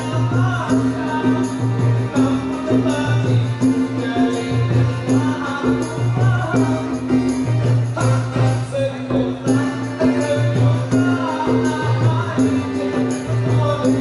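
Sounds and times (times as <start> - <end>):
accordion: 0.0 - 14.0
acoustic guitar: 0.0 - 14.0
double bass: 0.0 - 14.0
hand drums with jingles: 0.0 - 14.0.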